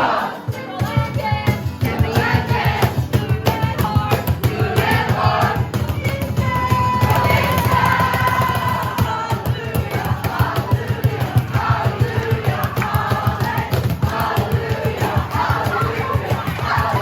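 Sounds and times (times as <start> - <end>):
crowd singing in unison: 0.0 - 17.0
steady beat: 0.5 - 17.0.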